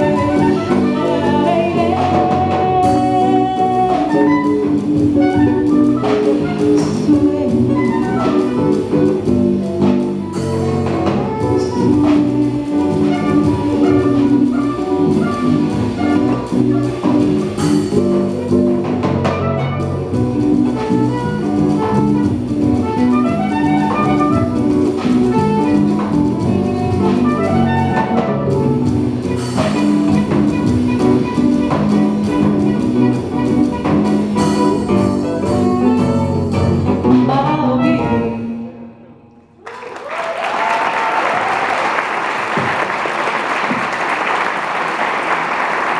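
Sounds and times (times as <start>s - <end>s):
percussion: 0.0s - 38.3s
drum kit: 0.0s - 38.4s
electric bass: 0.0s - 38.5s
saxophone: 0.0s - 39.0s.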